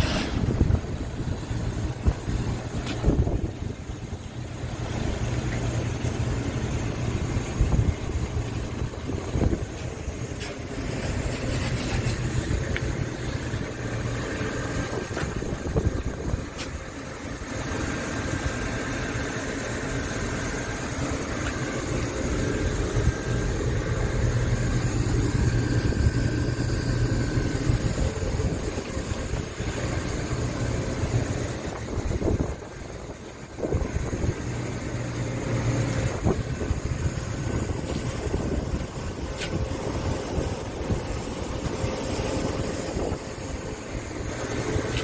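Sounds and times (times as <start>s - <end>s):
truck diesel engine idling: 0.2s - 45.0s.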